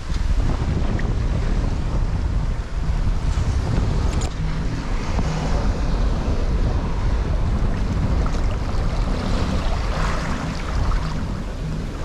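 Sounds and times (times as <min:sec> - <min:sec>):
boat wake churning: 0:00.0 - 0:12.0
waves rushing: 0:00.0 - 0:12.0
wind buffeting microphone: 0:00.0 - 0:12.0.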